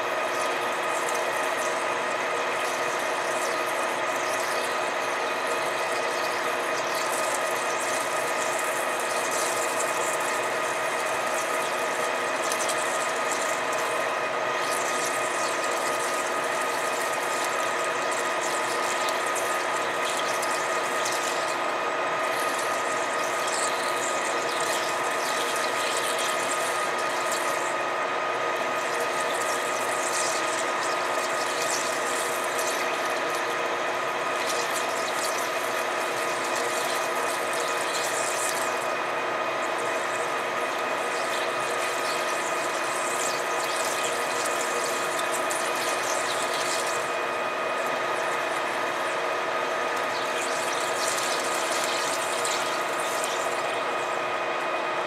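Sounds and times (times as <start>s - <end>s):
metal lathe whine: 0.0s - 55.0s.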